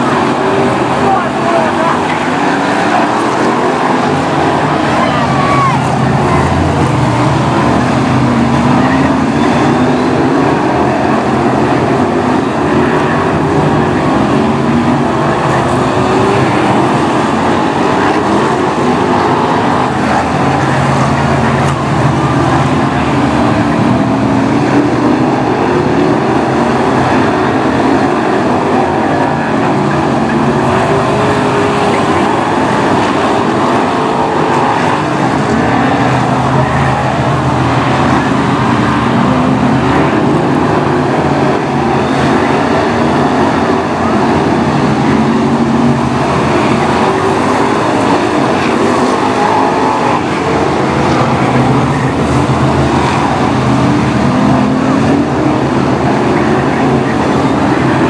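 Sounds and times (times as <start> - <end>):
racing car engines at high revs: 0.0 - 58.0.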